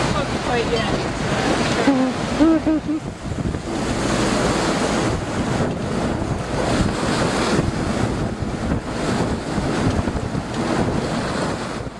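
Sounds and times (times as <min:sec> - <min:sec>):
rough seas rushing: 0:00.0 - 0:11.9
wind buffeting microphone: 0:00.0 - 0:11.9.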